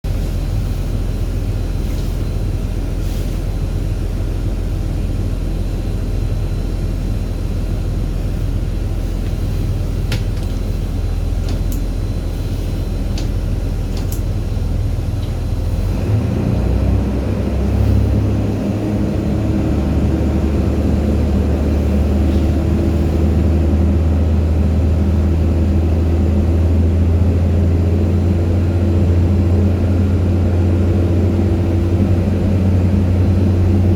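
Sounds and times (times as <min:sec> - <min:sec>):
low machinery rumble: 0:00.0 - 0:33.9.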